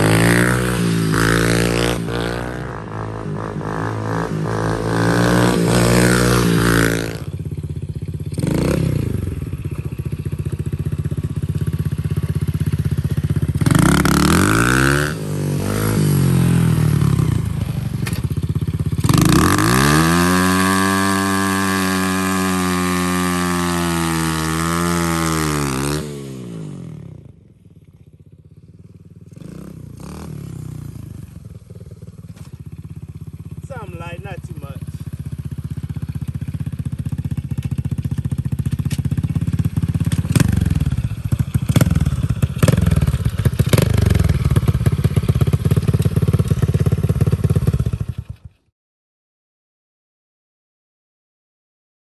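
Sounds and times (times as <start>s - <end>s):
dirt bike engine revving: 0.0s - 27.2s, 29.3s - 48.5s.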